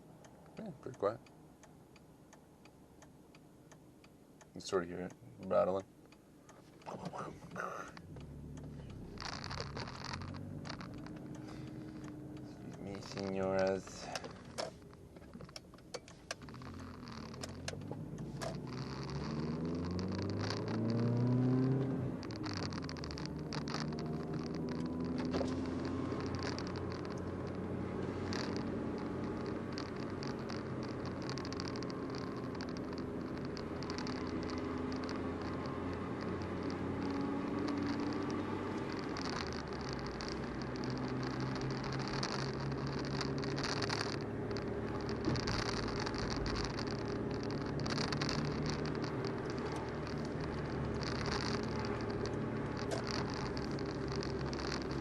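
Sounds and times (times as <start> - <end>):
car engine with leaking exhaust: 0.0 - 55.0
road noise: 0.0 - 55.0.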